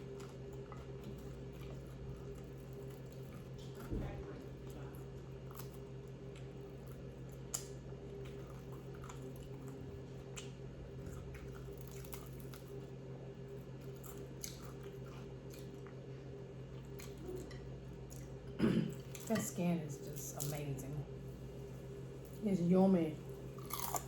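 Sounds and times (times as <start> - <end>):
person chewing crunchy food: 0.0 - 19.4, 23.4 - 24.0
steady low hum: 0.0 - 24.0.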